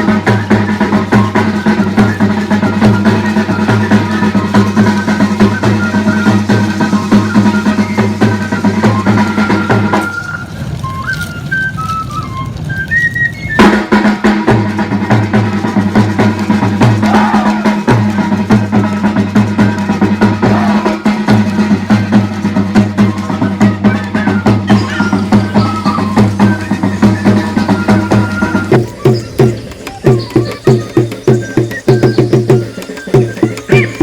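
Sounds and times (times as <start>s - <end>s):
quick drum beat: 0.0s - 10.7s, 13.6s - 34.0s
flute-like melody: 0.0s - 34.0s.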